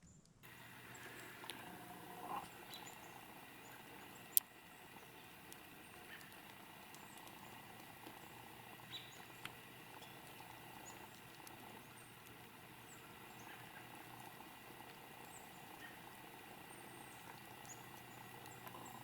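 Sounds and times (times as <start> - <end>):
faint outdoor background: 0.0 - 19.0
soft ticks: 0.4 - 19.0.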